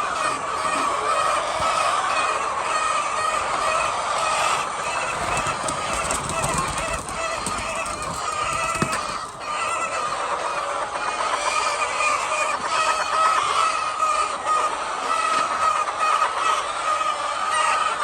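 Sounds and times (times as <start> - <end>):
flock of chickens clucking: 0.0 - 18.0.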